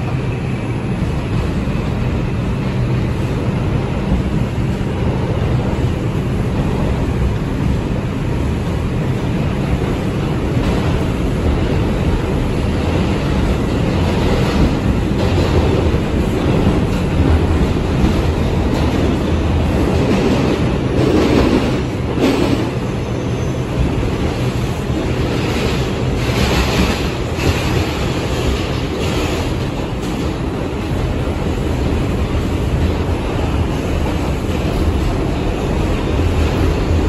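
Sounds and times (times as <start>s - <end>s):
subway car rumbling in tunnel: 0.0s - 37.0s.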